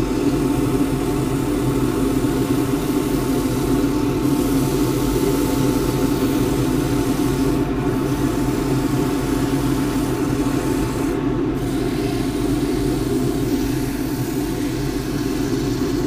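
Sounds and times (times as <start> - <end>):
lathe motor hum: 0.0 - 16.0
sandpaper hissing on wood: 2.2 - 16.0.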